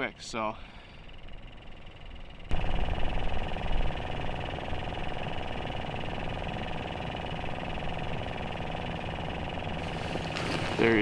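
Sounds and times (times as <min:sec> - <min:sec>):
engine humming: 0:00.6 - 0:11.0.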